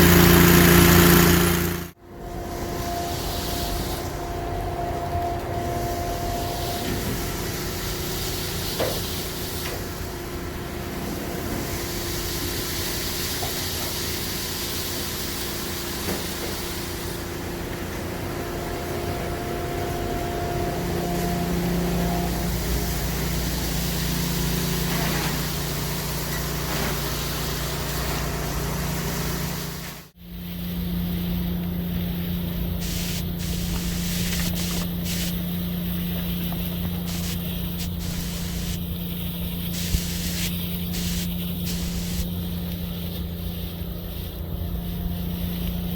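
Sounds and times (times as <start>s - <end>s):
vacuum machine drone: 0.0s - 45.9s
hiss of rushing air: 2.4s - 4.6s, 5.8s - 18.9s, 20.7s - 45.9s.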